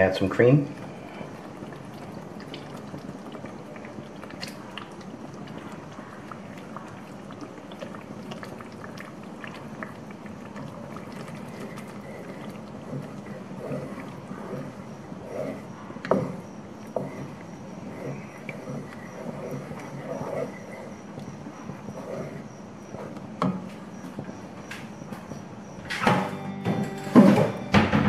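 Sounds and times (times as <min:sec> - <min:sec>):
cream pouring: 0:00.0 - 0:22.6
sauce sizzling and bubbling in pan: 0:00.0 - 0:25.7.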